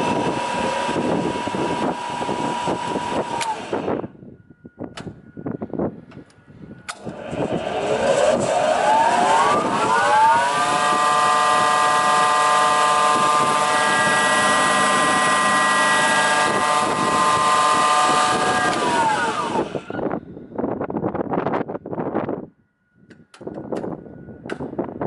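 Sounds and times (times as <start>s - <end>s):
spindle moulder whine: 0.0s - 20.6s.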